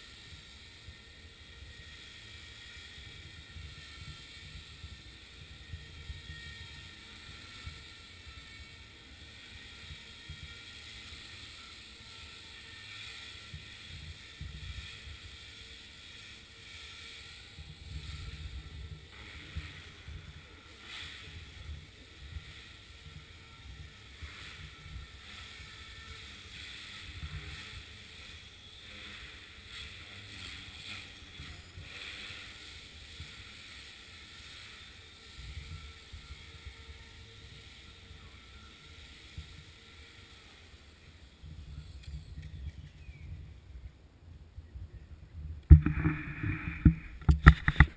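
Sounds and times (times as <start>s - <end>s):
model helicopter motor whine: 0.0s - 47.9s.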